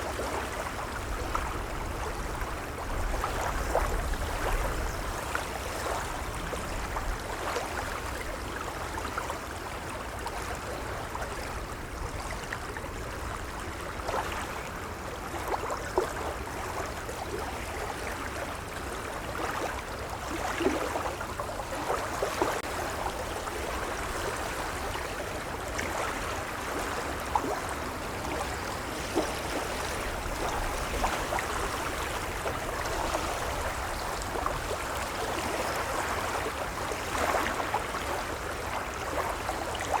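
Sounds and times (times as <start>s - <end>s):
gentle waves lapping: 0.0s - 40.0s.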